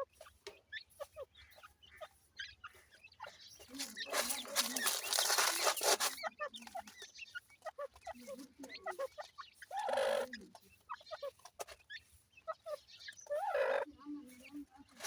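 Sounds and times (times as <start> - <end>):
chicks peeping: 0.0 - 15.0
rustling and scratching: 0.0 - 15.0.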